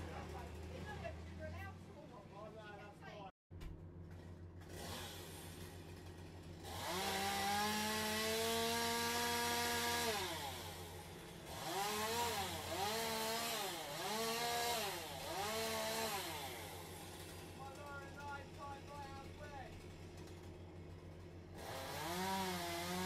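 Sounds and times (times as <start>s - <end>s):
chainsaw revving: 0.0s - 1.7s, 4.5s - 23.0s.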